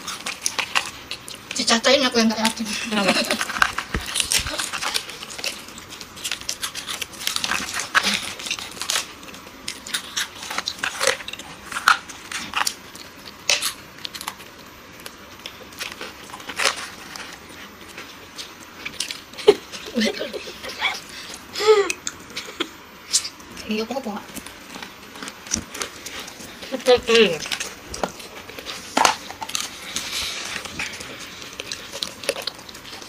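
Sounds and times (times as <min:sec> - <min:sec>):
chewing and crunching snacks: 0:00.0 - 0:23.6, 0:24.2 - 0:33.0.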